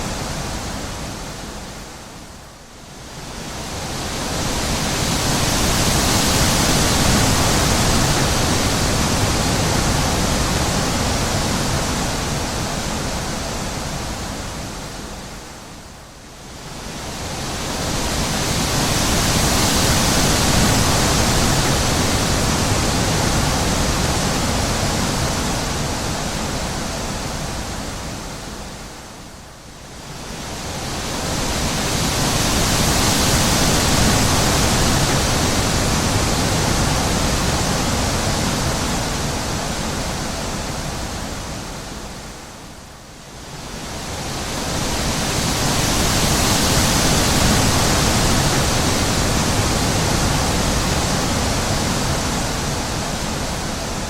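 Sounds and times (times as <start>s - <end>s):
wind blowing in gusts: 0.0s - 54.0s.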